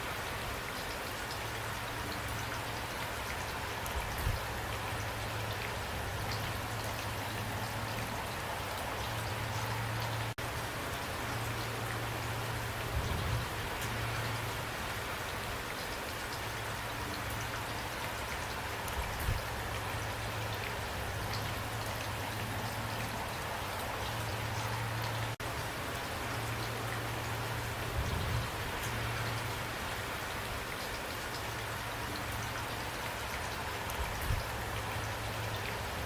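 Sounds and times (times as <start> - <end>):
rain falling: 0.0 - 36.0
raindrops ticking on a surface: 0.0 - 36.0.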